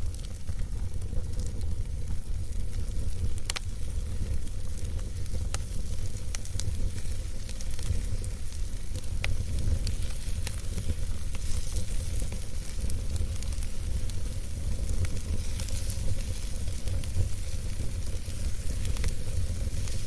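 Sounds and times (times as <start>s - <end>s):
campfire pops and snaps: 0.0s - 20.0s
low fire rumble and hiss: 0.0s - 20.0s.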